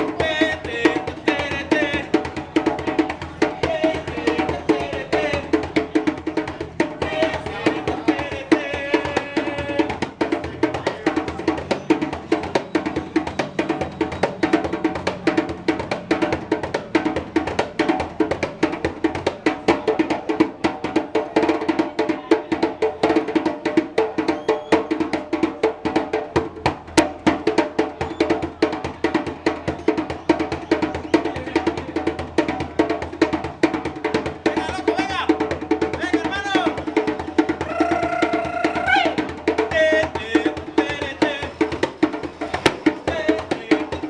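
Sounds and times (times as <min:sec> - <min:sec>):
music with fast percussive strikes: 0:00.0 - 0:44.0.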